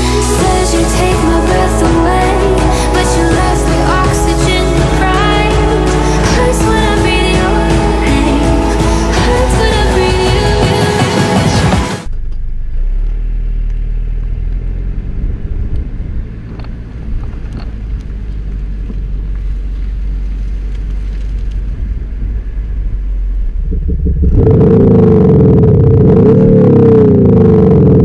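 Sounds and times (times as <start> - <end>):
car engine idling: 0.0 - 28.0
car engine revving: 0.0 - 28.0.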